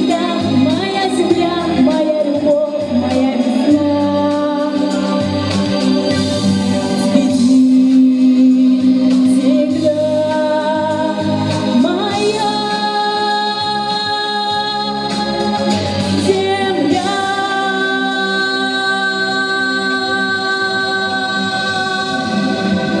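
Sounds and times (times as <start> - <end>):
instrumental accompaniment: 0.0 - 23.0
woman singing: 0.0 - 23.0.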